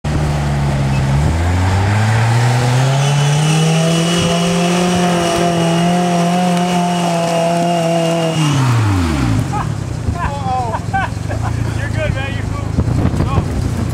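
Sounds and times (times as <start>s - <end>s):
vehicle engine accelerating: 0.0s - 13.9s.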